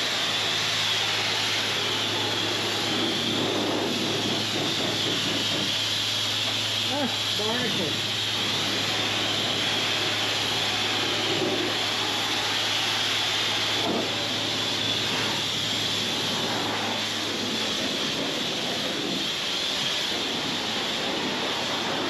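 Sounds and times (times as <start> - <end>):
loud steady hiss: 0.0 - 22.0.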